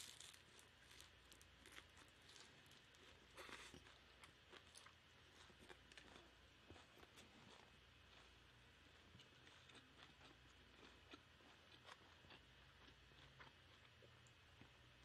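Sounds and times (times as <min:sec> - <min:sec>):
close-up chewing: 0:00.0 - 0:15.0.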